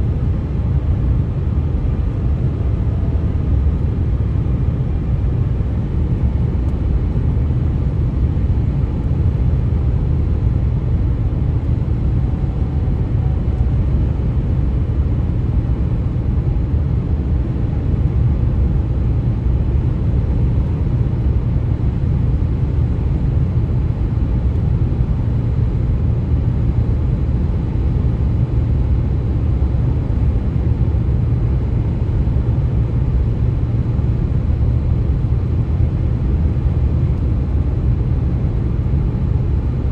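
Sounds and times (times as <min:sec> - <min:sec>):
highway road noise: 0:00.0 - 0:39.9.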